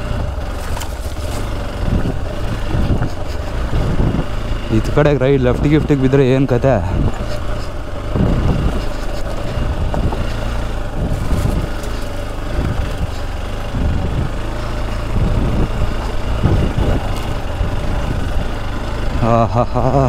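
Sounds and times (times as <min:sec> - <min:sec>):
motorcycle engine surging at low revs: 0:00.0 - 0:20.0.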